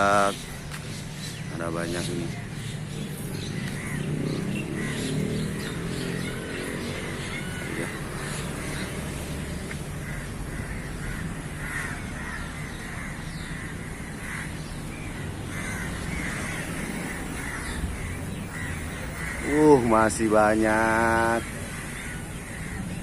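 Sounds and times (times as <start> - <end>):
crows cawing: 3.4 - 23.0.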